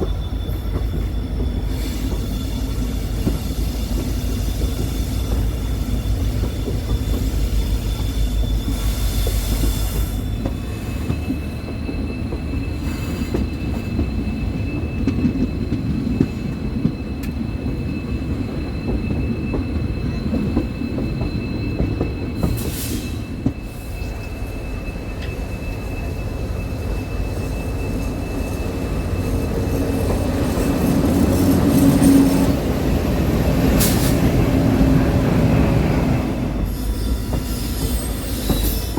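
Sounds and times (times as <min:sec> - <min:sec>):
train wheels rumbling: 0:00.0 - 0:38.9
wheels squealing on rail: 0:00.0 - 0:38.9.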